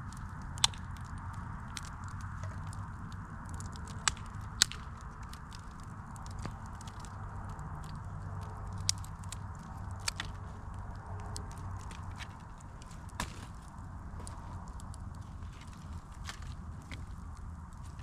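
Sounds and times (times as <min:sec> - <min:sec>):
campfire wood crackling and popping: 0:00.0 - 0:18.0
low steady rumble: 0:00.0 - 0:18.0.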